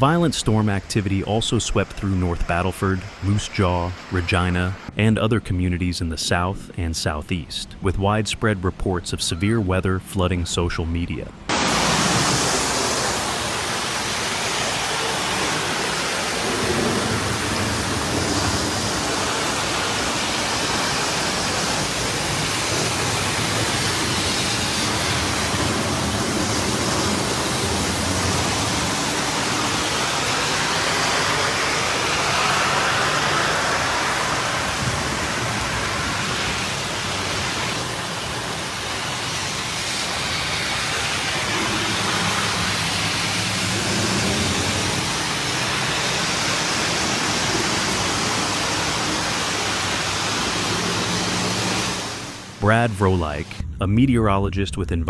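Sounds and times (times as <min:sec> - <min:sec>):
heavy rain: 0:00.0 - 0:04.9, 0:11.5 - 0:53.6
rushing floodwater: 0:00.0 - 0:04.9, 0:11.5 - 0:53.4.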